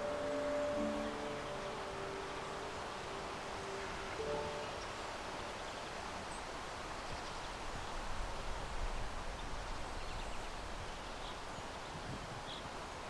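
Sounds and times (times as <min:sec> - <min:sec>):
wind through leaves: 0:00.0 - 0:13.0.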